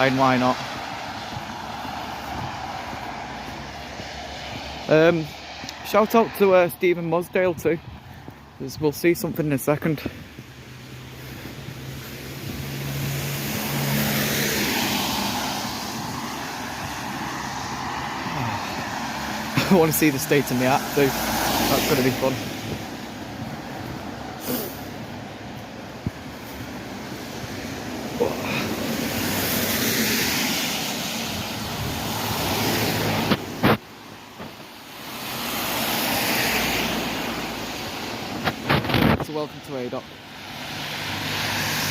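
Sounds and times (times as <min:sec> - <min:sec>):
car passing: 0:00.0 - 0:41.9.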